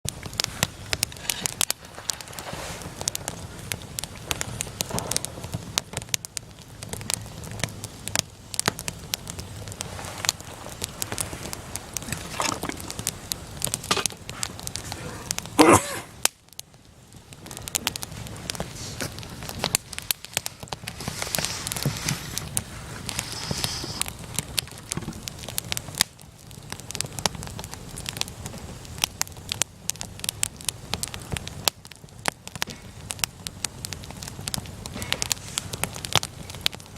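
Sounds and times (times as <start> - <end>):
wood fire crackling: 0.0 - 36.9
low hiss: 0.1 - 36.9
low rush of flames: 0.1 - 36.9.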